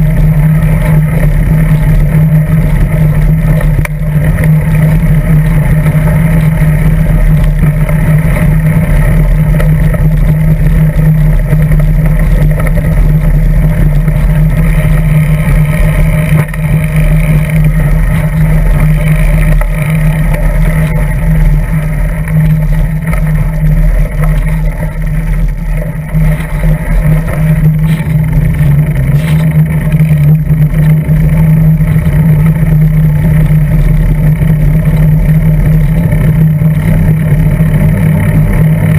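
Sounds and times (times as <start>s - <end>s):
bicycle riding over gravel: 0.0s - 38.9s
road vibration rumble: 0.0s - 38.9s
wind noise: 0.0s - 38.9s.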